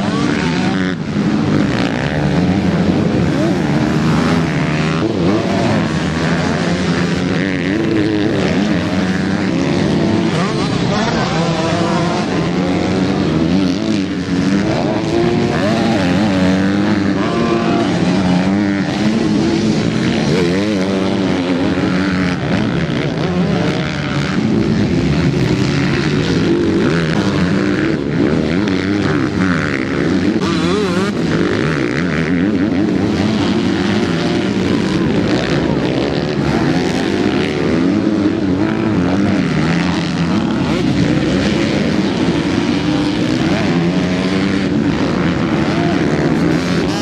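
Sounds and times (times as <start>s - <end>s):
motocross motorcycles revving: 0.0s - 47.0s.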